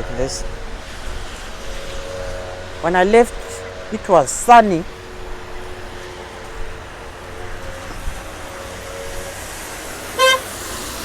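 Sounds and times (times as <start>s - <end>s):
wind and rain rushing: 0.0s - 11.0s.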